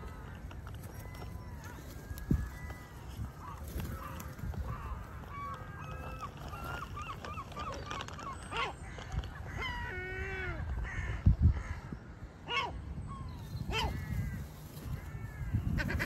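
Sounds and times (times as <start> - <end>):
crows calling: 0.0 - 16.0.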